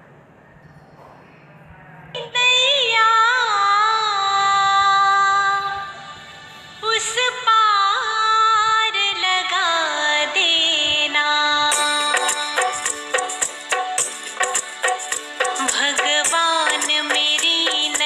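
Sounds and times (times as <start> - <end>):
devotional song singing: 2.4 - 18.0.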